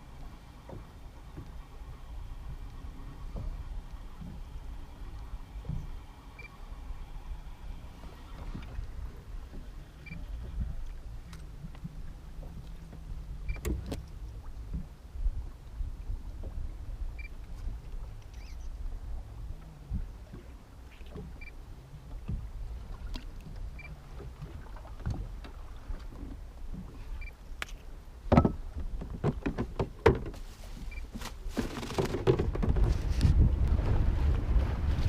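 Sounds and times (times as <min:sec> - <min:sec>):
low rumble of wind and water: 0:00.0 - 0:35.0.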